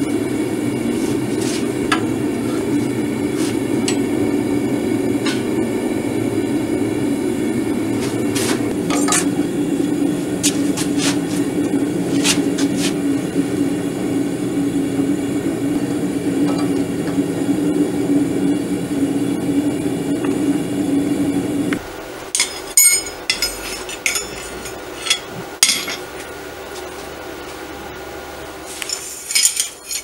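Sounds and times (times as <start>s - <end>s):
gas burner roaring: 0.0s - 30.0s.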